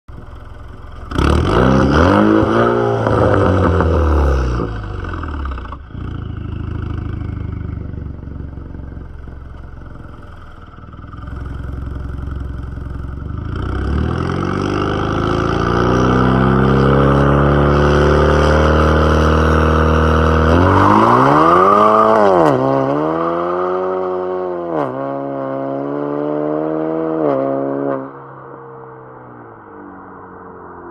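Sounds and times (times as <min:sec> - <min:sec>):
car engine revving: 0:00.2 - 0:28.2.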